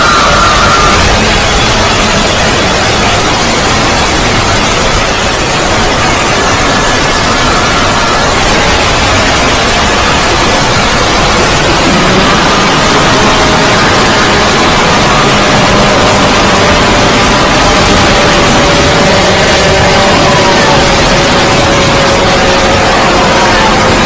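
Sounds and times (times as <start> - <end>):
distorted static noise: 0.0 - 24.0.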